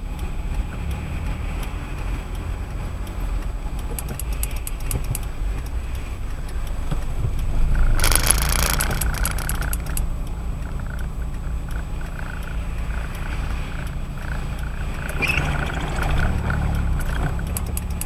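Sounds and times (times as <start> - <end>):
road and tyre noise: 0.0 - 18.0
faint ticks: 0.1 - 18.0.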